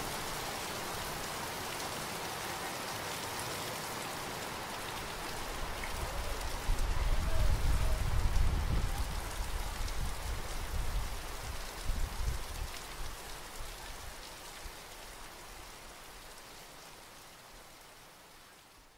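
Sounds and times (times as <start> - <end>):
heavy rain on standing water: 0.0 - 18.9.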